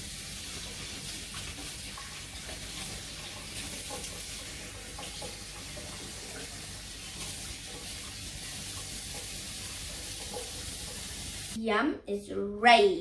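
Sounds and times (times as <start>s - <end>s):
tap running into metal sink: 0.6s - 11.4s.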